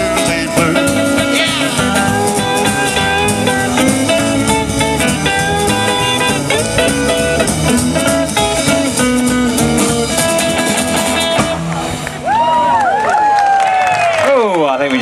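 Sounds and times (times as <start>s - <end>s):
electric guitar: 0.0s - 14.2s
rockabilly band playing: 0.0s - 15.0s.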